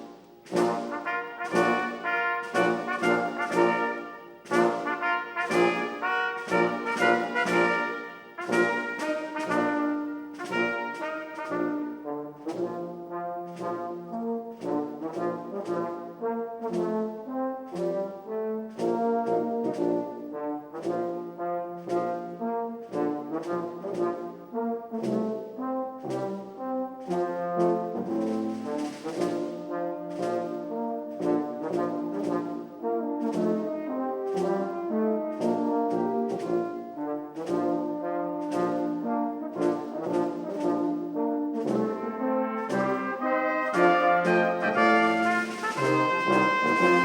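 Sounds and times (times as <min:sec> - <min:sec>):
orchestra playing hymn with brass: 0:00.0 - 0:47.0.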